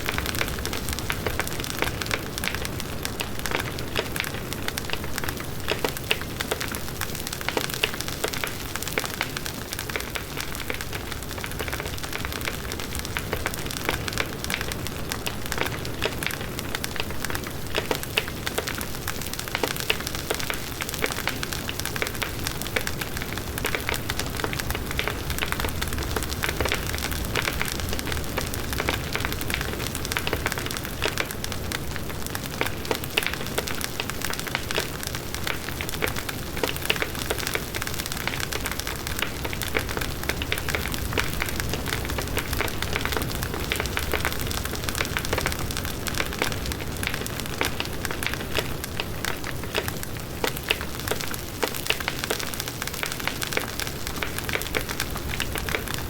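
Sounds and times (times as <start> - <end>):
burning wood crackling: 0.0 - 56.0.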